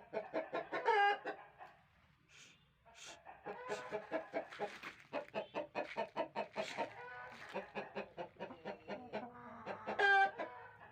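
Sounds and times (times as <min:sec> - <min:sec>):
chickens clucking: 0:00.0 - 0:01.8, 0:02.9 - 0:10.9.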